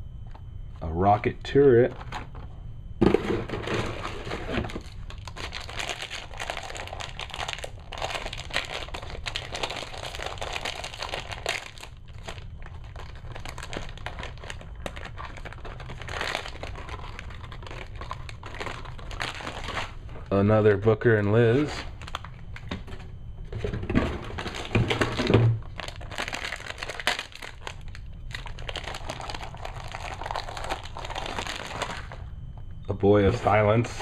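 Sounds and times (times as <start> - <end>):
plastic packaging crinkling: 1.9 - 2.5, 3.2 - 20.4, 21.2 - 23.0, 23.6 - 32.4.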